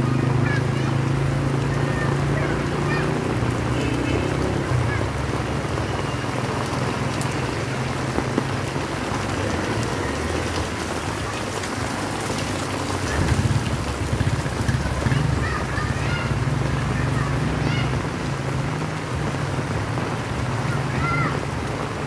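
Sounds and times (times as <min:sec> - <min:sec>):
heavy rain on pavement: 0:00.0 - 0:22.0
traffic rumble: 0:00.0 - 0:22.0.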